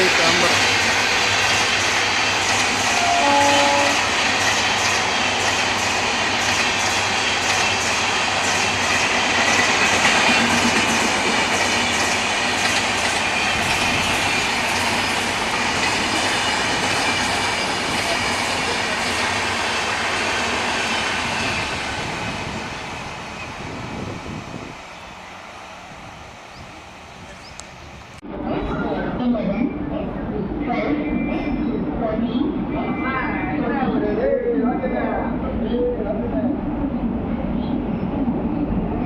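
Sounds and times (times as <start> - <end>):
train rumbling past: 0.0 - 39.0.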